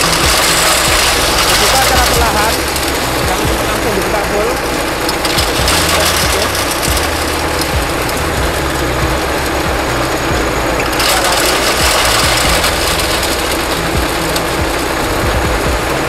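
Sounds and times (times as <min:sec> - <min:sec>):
hammer mill running: 0:00.0 - 0:16.0.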